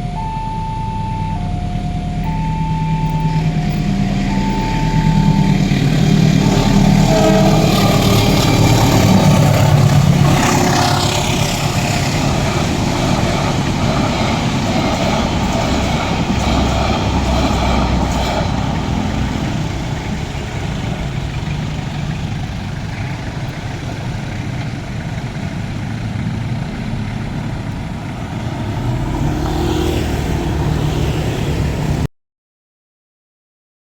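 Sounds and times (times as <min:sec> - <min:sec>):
vehicle engines and tyre noise: 0:00.0 - 0:32.1.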